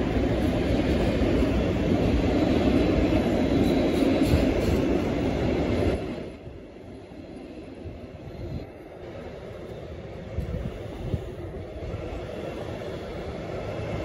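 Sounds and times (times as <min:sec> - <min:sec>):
freight train rolling on rails: 0:00.0 - 0:14.0.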